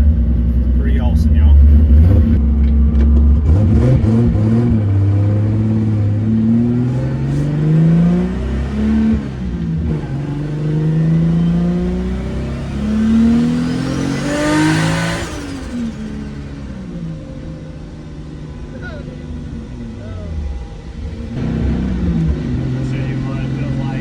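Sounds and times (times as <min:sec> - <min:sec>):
car engine revving through gears: 0:00.0 - 0:24.0.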